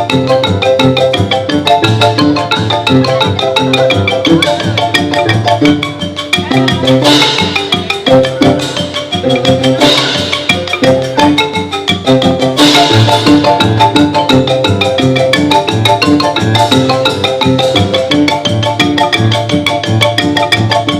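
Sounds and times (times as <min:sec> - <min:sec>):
xylophone music: 0:00.0 - 0:20.9.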